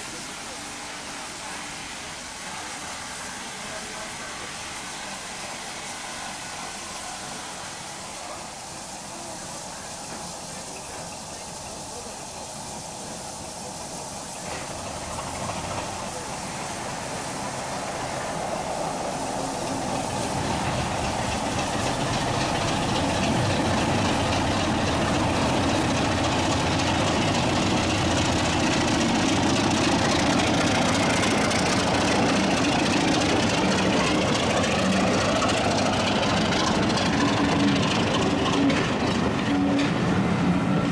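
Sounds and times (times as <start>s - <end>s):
diesel locomotive engine running: 0.0s - 40.9s.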